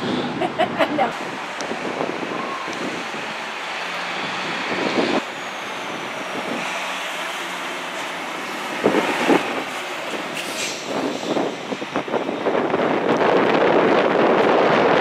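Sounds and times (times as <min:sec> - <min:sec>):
traffic: 0:00.0 - 0:15.0
wind: 0:00.0 - 0:15.0.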